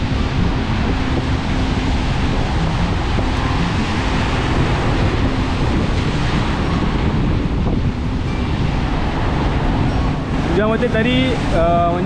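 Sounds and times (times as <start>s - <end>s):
sea surf: 0.0s - 12.0s
wind noise on microphone: 0.0s - 12.0s.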